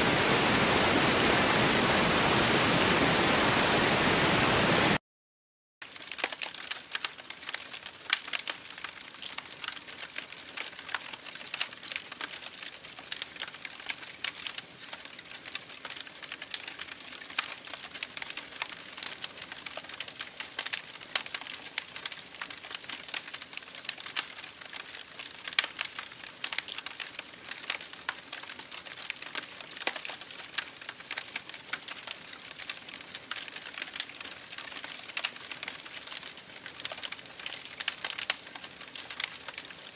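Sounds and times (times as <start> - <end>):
campfire crackling: 5.8 - 39.9.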